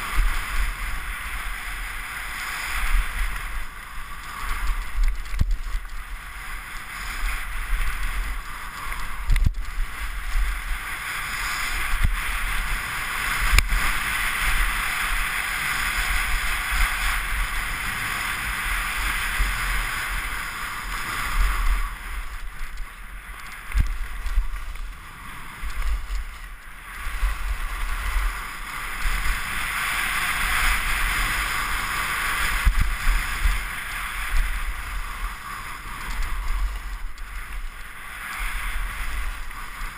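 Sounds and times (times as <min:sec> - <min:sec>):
skis scraping on snow: 0:00.0 - 0:39.9
wind rumbling on microphone: 0:00.0 - 0:39.9.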